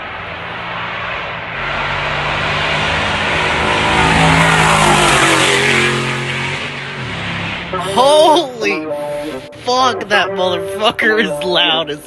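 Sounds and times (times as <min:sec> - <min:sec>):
loud car exhaust: 0:00.0 - 0:12.0.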